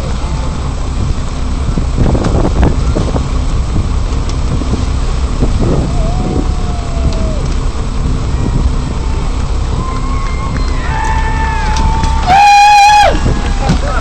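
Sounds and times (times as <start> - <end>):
wind and boat rumble: 0.0 - 14.0.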